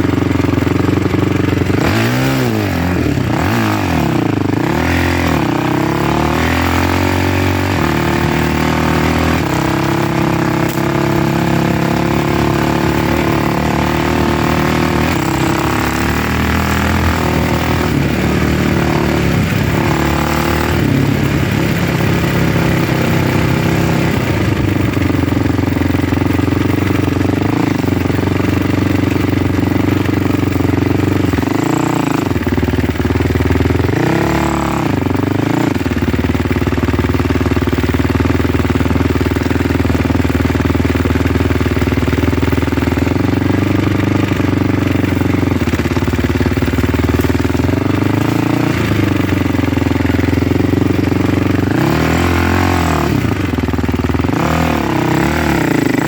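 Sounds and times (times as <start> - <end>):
vehicle engine revving: 0.0 - 37.1, 37.9 - 56.0.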